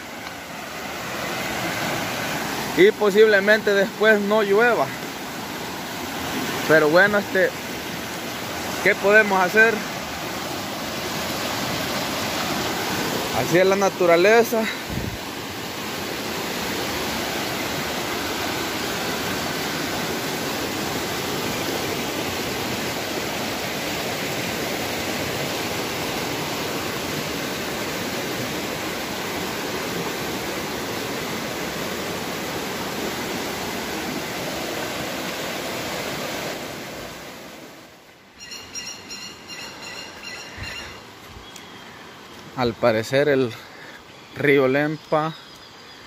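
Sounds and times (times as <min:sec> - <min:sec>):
stream rushing over rocks: 0:00.0 - 0:45.8.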